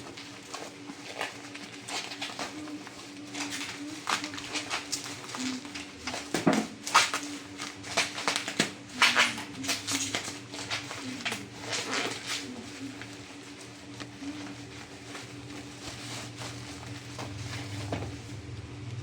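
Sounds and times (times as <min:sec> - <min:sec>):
cardboard packaging crinkling: 0:00.0 - 0:19.0.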